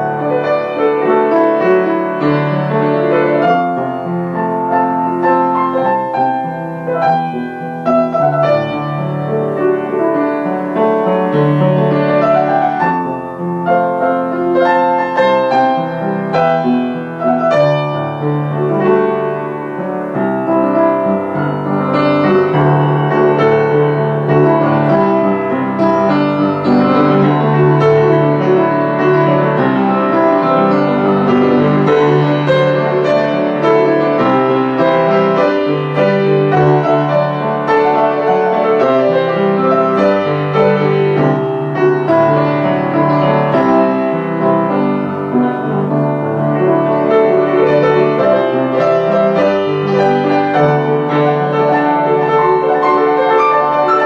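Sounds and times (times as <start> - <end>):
solo piano playing: 0.0 - 54.0.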